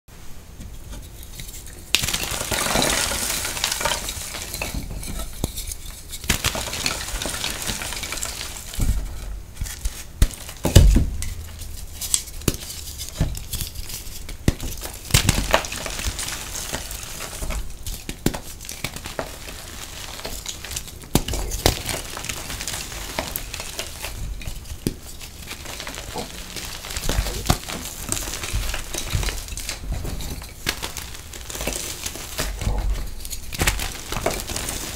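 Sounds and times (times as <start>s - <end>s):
hands crushing chalk: 0.9s - 34.9s
crumbs and powder falling: 1.0s - 34.9s
chalk chunks cracking: 1.4s - 34.9s.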